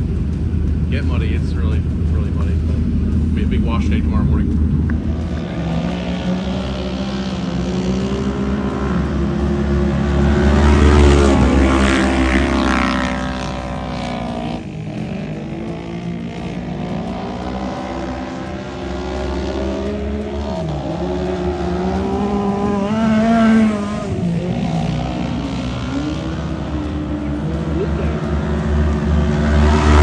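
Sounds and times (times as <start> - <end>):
race car engines accelerating: 0.0 - 30.0.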